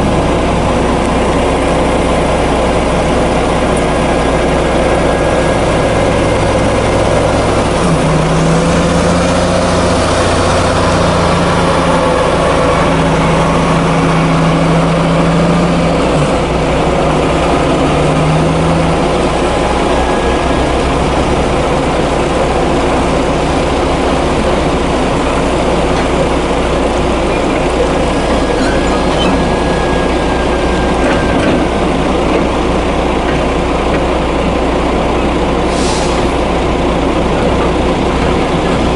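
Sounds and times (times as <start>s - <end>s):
truck diesel engine: 0.0s - 38.9s.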